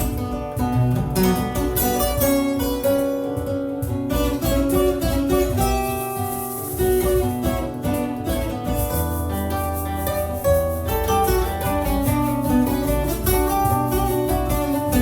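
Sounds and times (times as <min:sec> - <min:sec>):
acoustic guitar plucked notes: 0:00.0 - 0:15.0.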